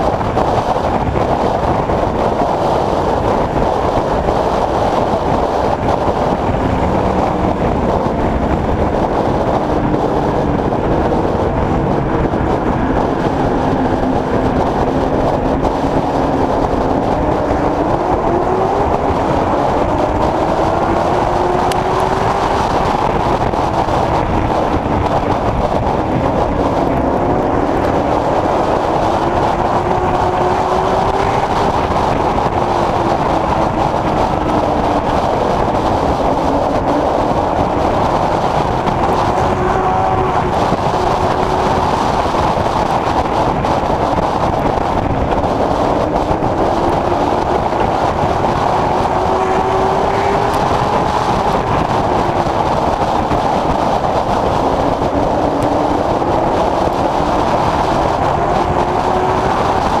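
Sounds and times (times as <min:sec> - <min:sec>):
race car engine roaring: 0:00.0 - 1:00.0.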